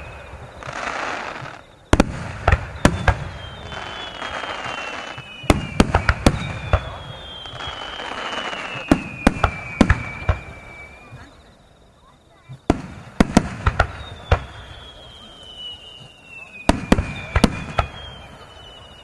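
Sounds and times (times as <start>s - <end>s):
crackling hiss: 0.0s - 19.0s
falling firework whistles: 0.0s - 19.0s.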